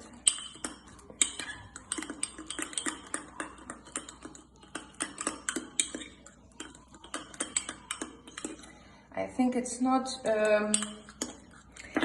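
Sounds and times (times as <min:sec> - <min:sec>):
spoon clicking against a bowl: 0:00.2 - 0:08.7, 0:10.4 - 0:11.9.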